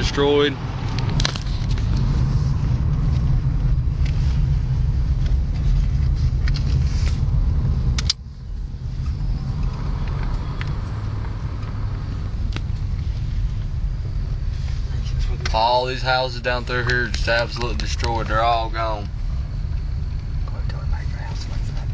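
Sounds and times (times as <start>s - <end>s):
car driving rumble: 0.0s - 21.9s.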